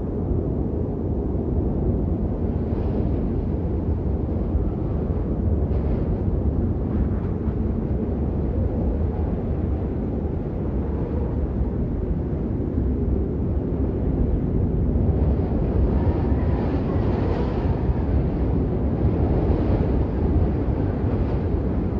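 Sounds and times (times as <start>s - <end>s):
faint wind howl: 0.0s - 21.9s
snowstorm wind blowing: 0.0s - 21.9s.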